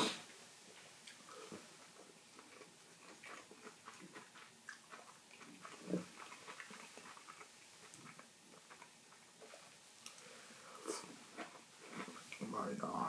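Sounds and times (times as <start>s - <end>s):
person chewing food: 0.0s - 12.5s.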